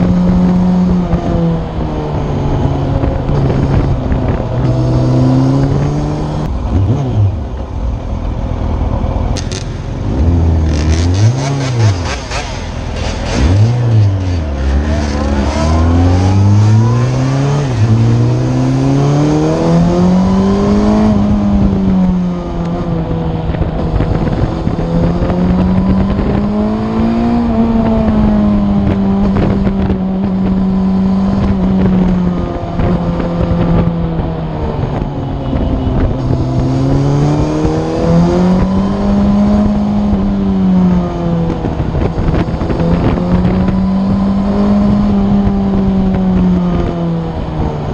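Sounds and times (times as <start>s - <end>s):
wind on microphone: 0.0s - 8.0s, 9.4s - 47.9s
motorcycle engine accelerating: 0.0s - 47.9s.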